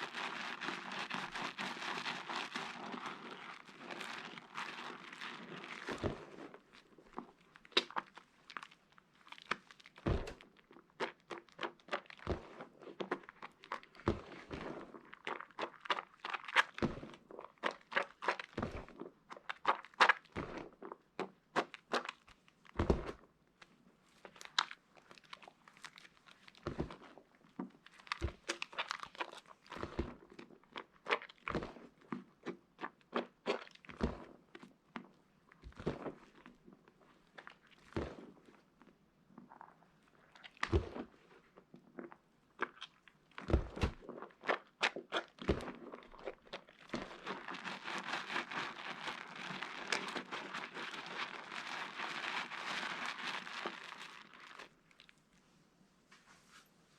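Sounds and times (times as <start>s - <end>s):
soap crunching and crackling: 0.0s - 55.4s.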